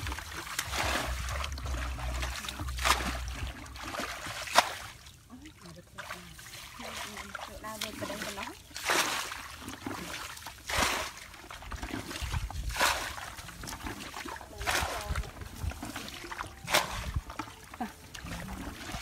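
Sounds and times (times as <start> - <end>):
muddy water splashing: 0.0 - 19.0.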